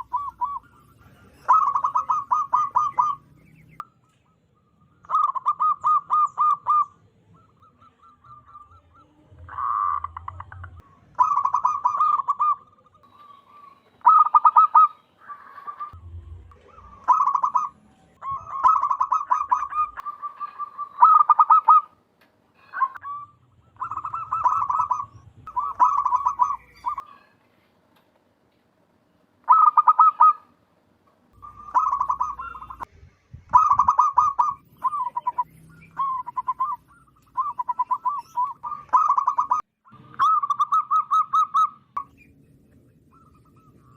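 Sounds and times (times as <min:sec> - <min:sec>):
dove cooing: 0:00.0 - 0:03.7, 0:05.0 - 0:16.0, 0:16.6 - 0:22.0, 0:22.6 - 0:27.3, 0:29.5 - 0:30.5, 0:31.4 - 0:32.9, 0:33.5 - 0:41.9.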